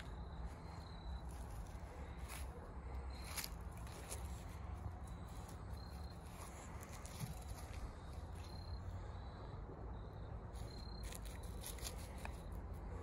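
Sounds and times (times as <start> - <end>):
footsteps through dry leaves: 0.0 - 8.8, 10.6 - 12.6.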